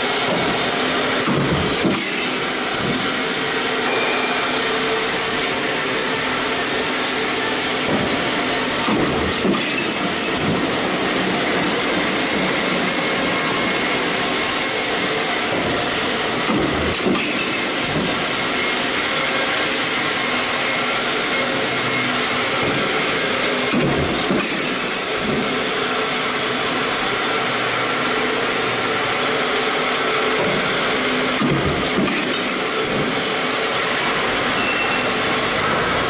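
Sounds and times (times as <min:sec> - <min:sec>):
stamping press machine noise: 0:00.0 - 0:36.0.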